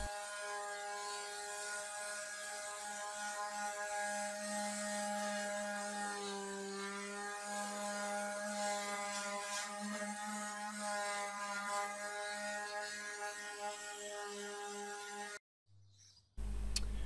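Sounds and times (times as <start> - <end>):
orbital sander on wood: 0.0 - 15.4.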